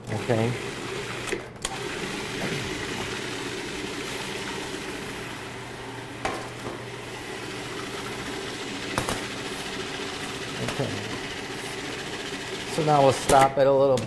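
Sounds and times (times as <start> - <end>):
food processor running: 0.0 - 13.3.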